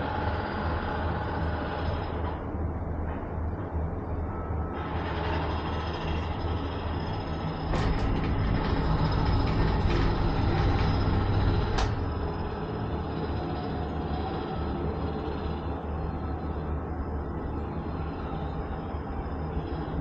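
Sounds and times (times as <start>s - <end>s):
cable car rumble and hum: 0.0s - 20.0s.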